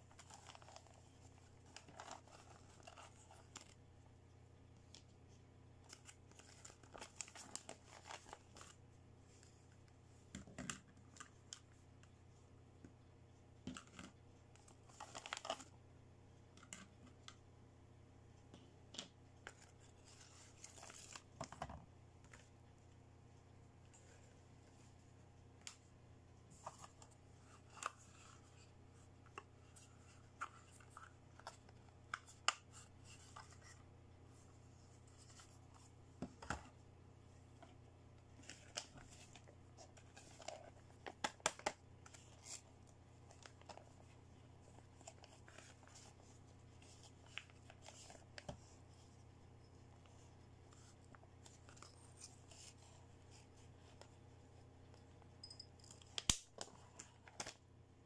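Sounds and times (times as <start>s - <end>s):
faint low hum: 0.0s - 58.0s.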